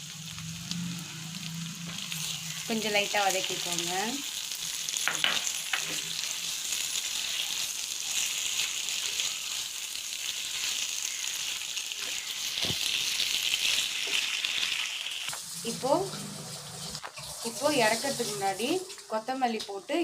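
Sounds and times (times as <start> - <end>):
chicken sizzling in a skillet: 0.0 - 20.0.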